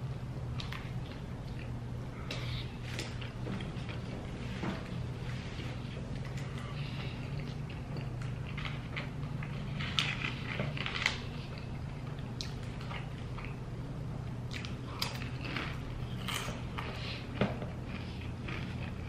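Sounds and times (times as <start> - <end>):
steady low hum: 0.0 - 19.0
chewing and crunching chips: 0.5 - 19.0.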